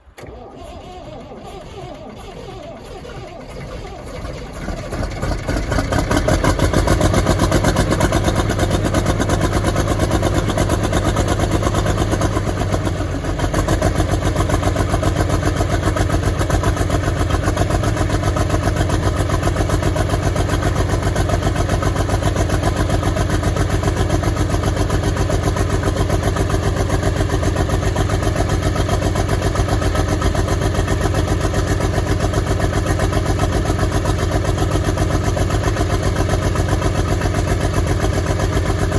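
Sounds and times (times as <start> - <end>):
diesel engine starting and running: 0.0 - 38.9.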